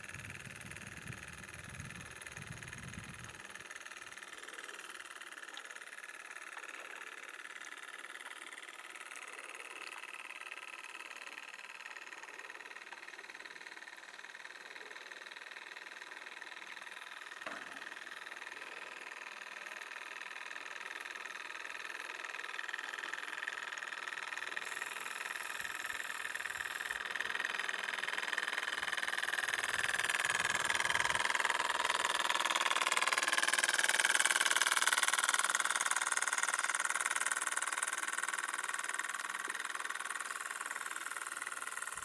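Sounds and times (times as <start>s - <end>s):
model steam engine whirring: 0.0s - 42.0s.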